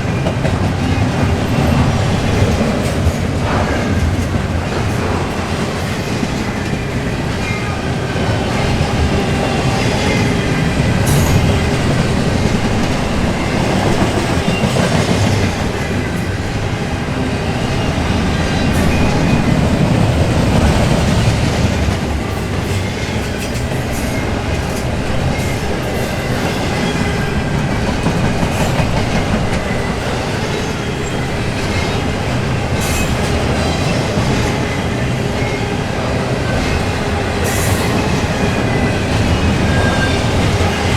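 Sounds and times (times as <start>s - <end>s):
wheels clanking over rail joints: 0.0s - 34.8s
steel wheels rumbling on rail: 0.0s - 40.9s.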